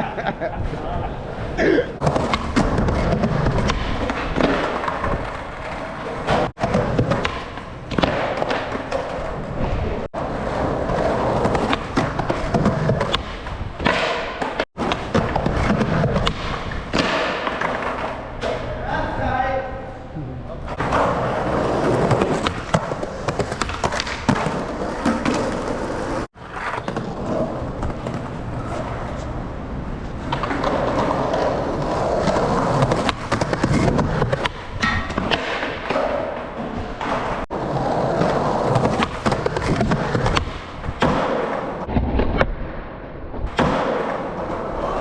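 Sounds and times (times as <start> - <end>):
skateboards rolling: 0.0 - 19.2, 20.6 - 42.6, 43.4 - 45.0
skateboard pops and impacts: 2.0 - 9.8, 10.8 - 18.5, 20.8 - 28.7, 30.2 - 42.8, 43.4 - 44.8.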